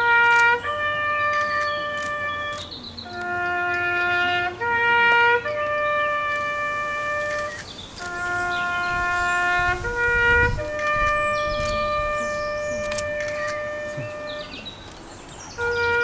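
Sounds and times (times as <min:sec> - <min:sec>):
solo trumpet bugle call: 0:00.0 - 0:14.6, 0:15.6 - 0:16.0.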